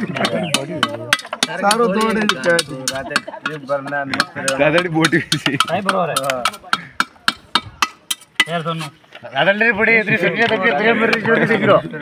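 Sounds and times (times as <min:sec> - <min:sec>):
men talking: 0:00.0 - 0:07.6, 0:08.2 - 0:12.0.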